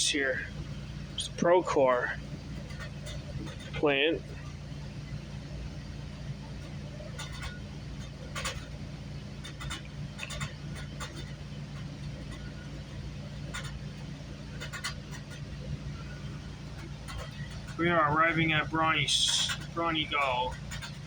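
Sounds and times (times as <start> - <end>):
train running hum: 0.0 - 21.0
clicks and light rattles: 0.4 - 5.2, 5.8 - 21.0.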